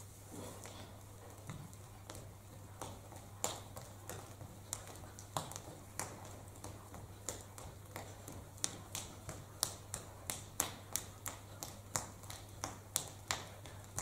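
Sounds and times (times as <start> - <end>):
steady low hum: 0.0 - 14.0
sharp rhythmic taps: 1.2 - 14.0.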